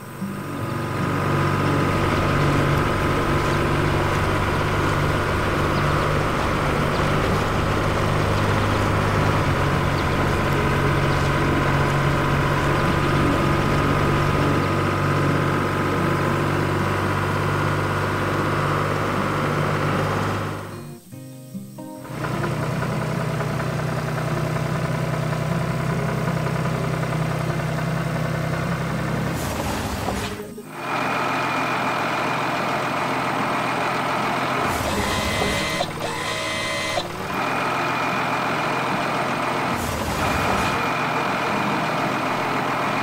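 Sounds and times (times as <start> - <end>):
harvester engine running: 0.0 - 21.1, 21.9 - 43.0.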